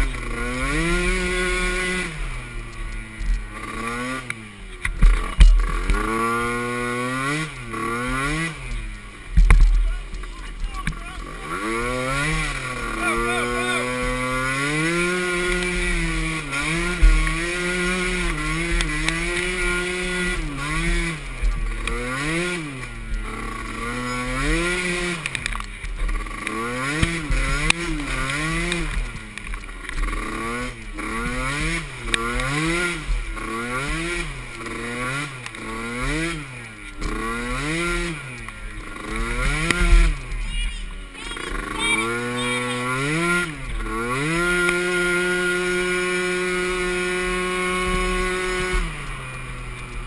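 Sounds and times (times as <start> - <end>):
small atv engine revving: 0.0 - 50.0.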